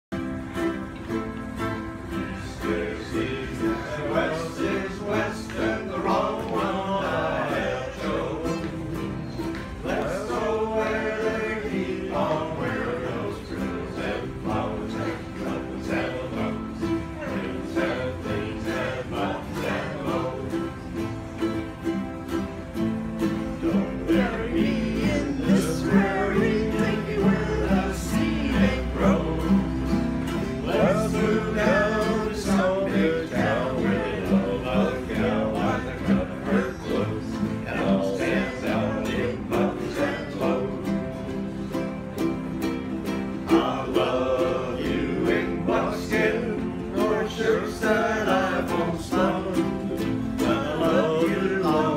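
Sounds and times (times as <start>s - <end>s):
ukuleles strumming chords: 0.1s - 51.9s.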